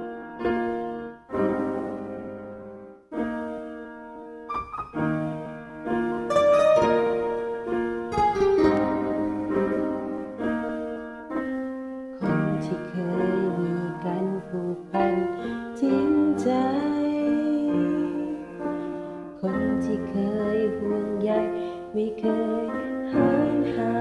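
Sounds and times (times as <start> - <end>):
piano chords: 0.0 - 24.0.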